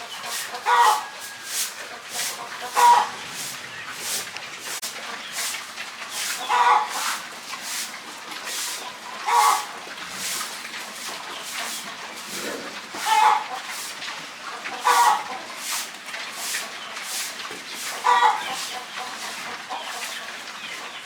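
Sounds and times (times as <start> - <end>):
farm animals calling: 0.0 - 7.4, 8.2 - 21.0.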